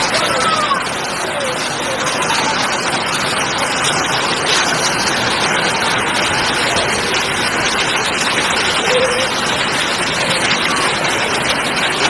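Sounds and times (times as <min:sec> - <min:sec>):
heavy rain and hail on pavement: 0:00.0 - 0:12.0.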